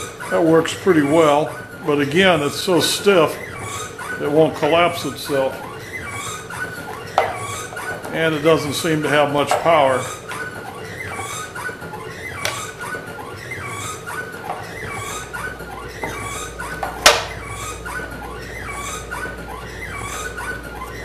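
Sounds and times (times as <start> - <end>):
pneumatic motor squeaking: 0.0 - 21.0.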